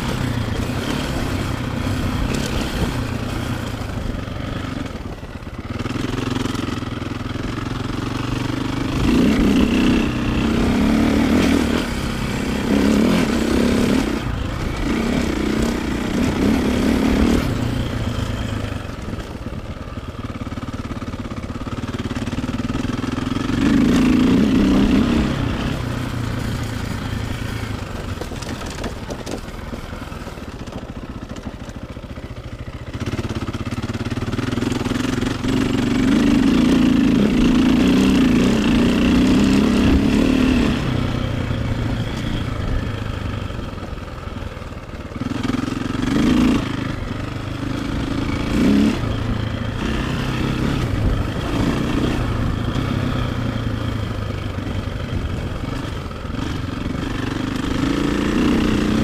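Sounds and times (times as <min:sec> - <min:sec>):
dirt bike engine revving: 0:00.0 - 0:30.6, 0:32.4 - 0:59.0.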